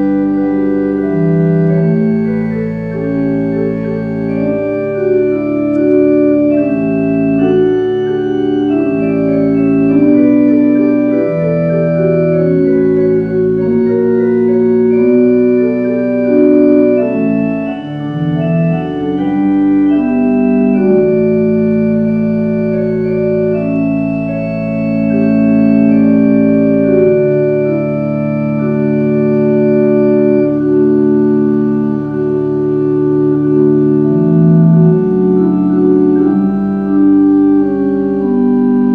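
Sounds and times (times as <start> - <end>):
organ playing slow chords: 0.0 - 38.9.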